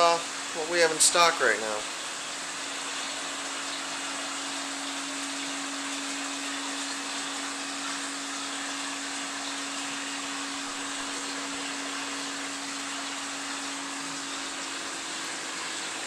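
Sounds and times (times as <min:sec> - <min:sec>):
aquarium water hissing: 0:00.0 - 0:16.0
pump hum: 0:00.0 - 0:16.0.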